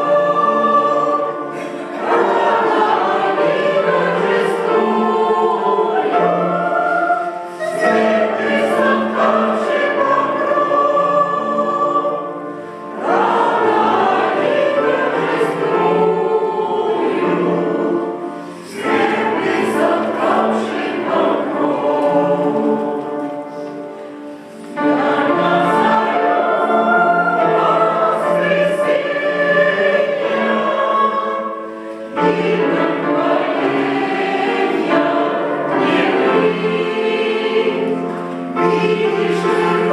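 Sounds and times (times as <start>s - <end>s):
church choir singing a hymn: 0.0s - 39.9s.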